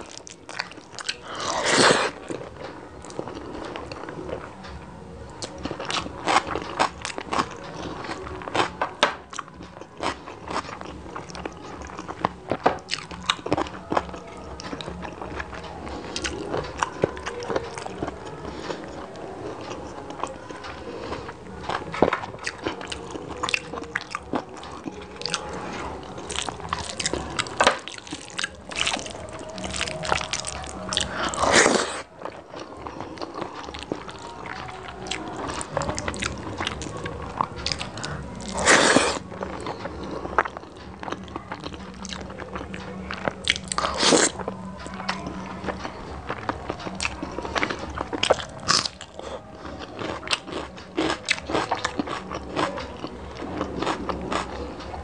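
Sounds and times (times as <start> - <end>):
chewing and wet mouth sounds: 0.0 - 55.0.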